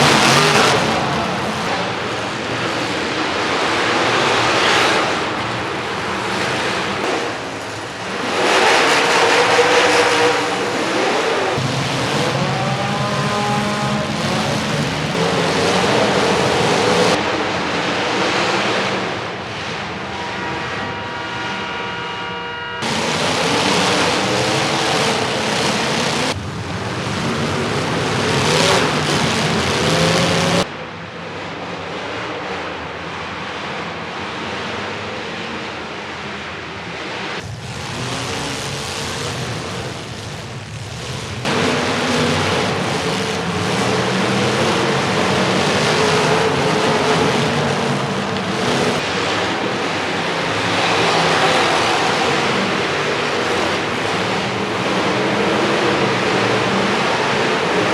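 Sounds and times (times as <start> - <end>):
arena noise: 0.0 - 57.9
car engines revving: 0.0 - 57.9.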